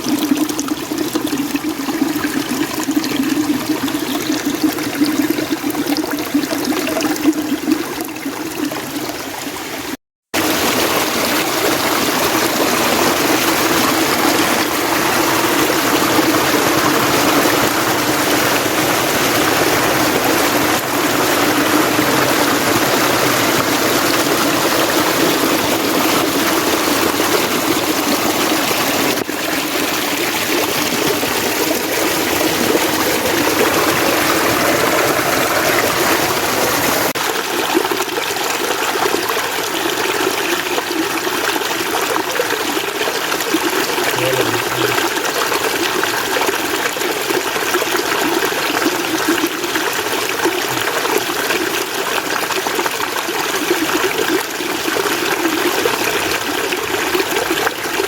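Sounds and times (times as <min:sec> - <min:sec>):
mountain stream water running: 0:00.0 - 0:58.0.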